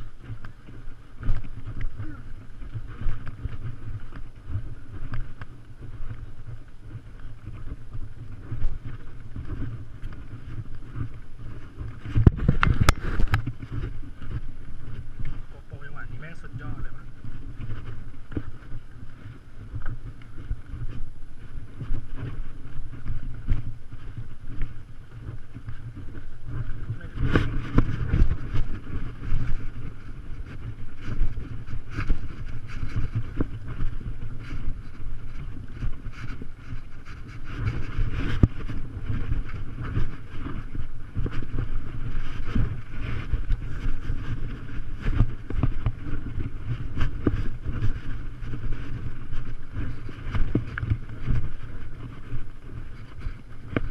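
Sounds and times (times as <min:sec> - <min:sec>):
muffled rumble: 0:00.0 - 0:53.9
wind noise: 0:00.0 - 0:53.9.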